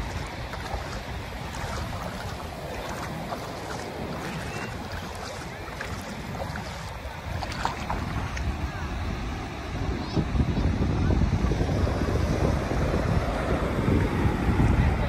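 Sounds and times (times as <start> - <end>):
ocean surf washing: 0.0 - 15.0
wind on microphone: 0.0 - 15.0.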